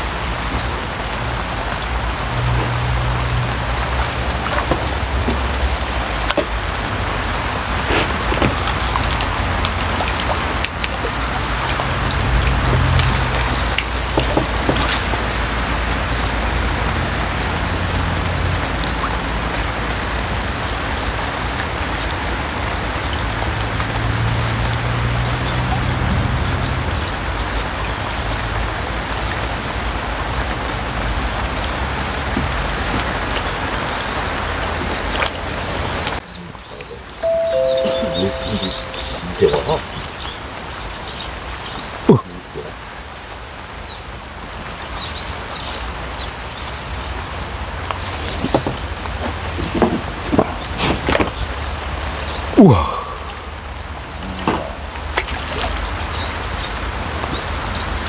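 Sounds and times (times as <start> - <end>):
rain falling on pond water: 0.0 - 58.0.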